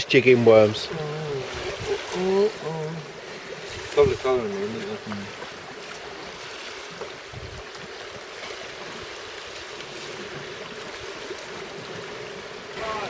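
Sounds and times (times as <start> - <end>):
sea washing against breakwater: 0.0 - 13.0
wind: 0.0 - 13.0.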